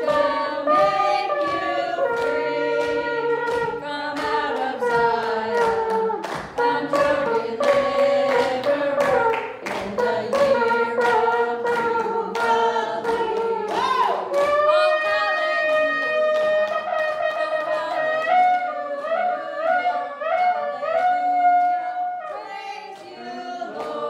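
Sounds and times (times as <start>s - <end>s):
congregation singing: 0.0s - 24.0s
hands clapping a steady beat: 0.0s - 24.0s.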